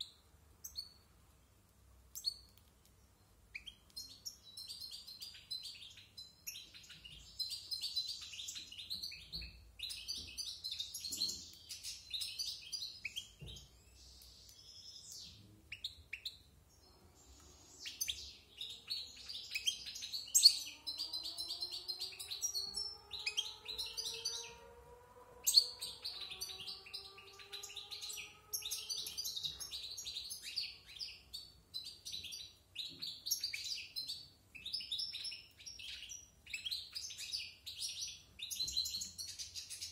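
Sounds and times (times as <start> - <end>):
goldfinch twittering song: 3.2 - 24.6, 25.4 - 39.9.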